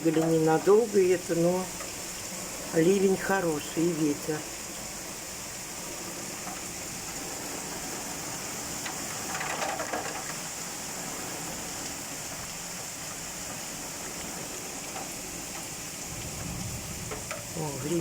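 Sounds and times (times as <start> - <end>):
heavy rain hissing: 0.0 - 18.0
wind: 0.0 - 18.0.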